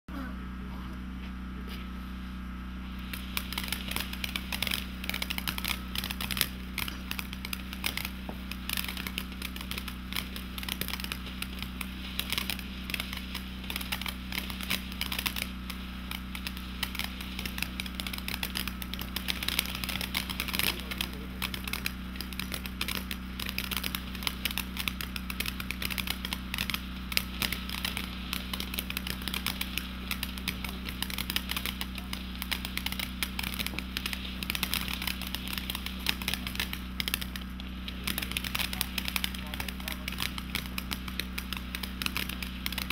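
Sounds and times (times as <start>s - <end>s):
firework fountain crackling: 2.7s - 42.9s.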